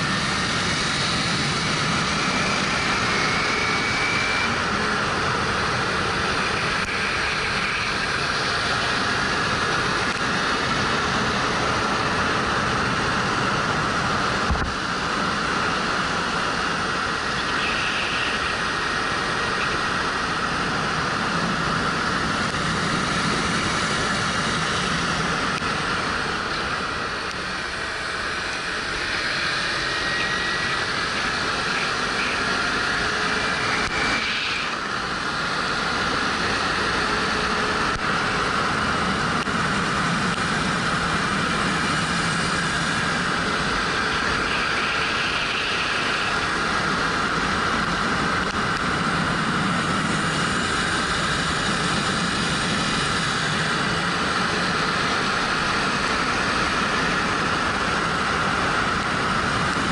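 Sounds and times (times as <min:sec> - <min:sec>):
wind rushing over camera: 0:00.0 - 0:17.4, 0:18.3 - 0:59.9.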